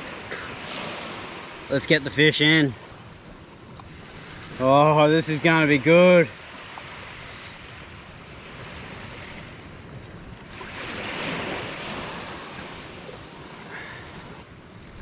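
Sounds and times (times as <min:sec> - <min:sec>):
small waves washing onto beach: 0:00.0 - 0:15.0.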